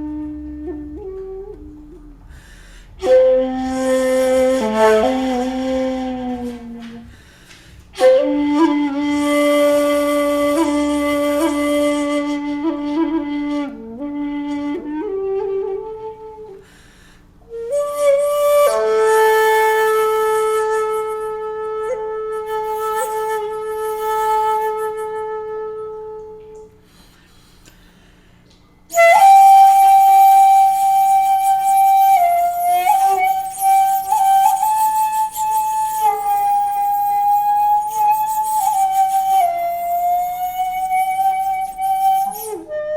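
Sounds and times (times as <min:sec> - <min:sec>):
shakuhachi long held notes: 0:00.0 - 0:07.2, 0:07.9 - 0:16.8, 0:17.4 - 0:27.2, 0:28.8 - 0:42.9.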